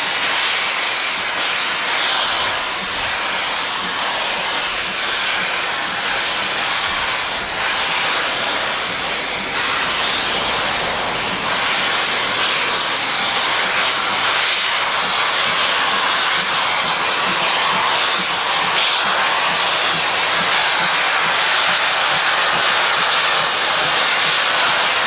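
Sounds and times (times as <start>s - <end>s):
steam train rushing hiss: 0.0s - 25.0s.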